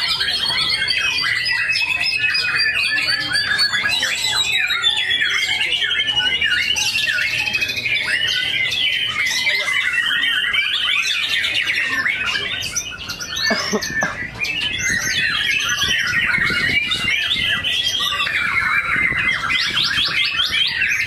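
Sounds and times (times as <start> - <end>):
fast rattling bird trill: 0.0 - 21.0
songbirds singing: 0.0 - 21.0.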